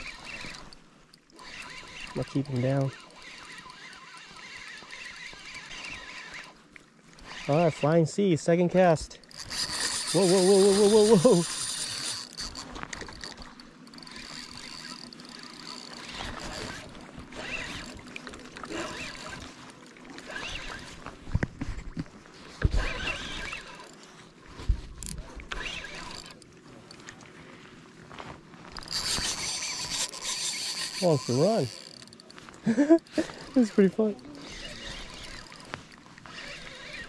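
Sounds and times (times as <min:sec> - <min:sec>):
fishing reel spinning: 0:00.0 - 0:27.3, 0:28.7 - 0:37.0.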